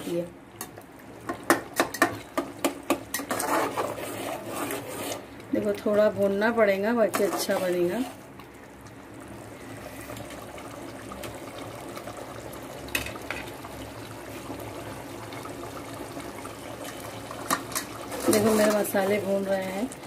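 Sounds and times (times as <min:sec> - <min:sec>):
gravy bubbling and sizzling: 0:00.0 - 0:20.0.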